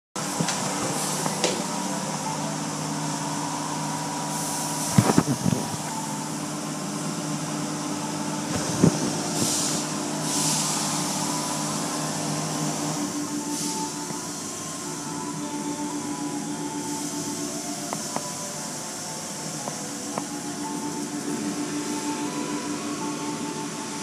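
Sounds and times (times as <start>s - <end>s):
car wash machinery humming: 0.2s - 24.0s.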